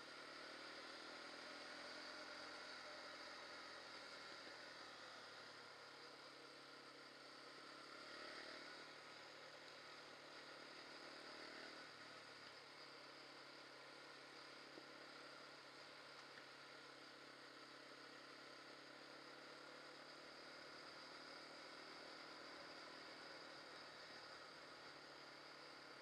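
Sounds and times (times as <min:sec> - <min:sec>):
muffled quad bike engine: 0:00.0 - 0:26.0.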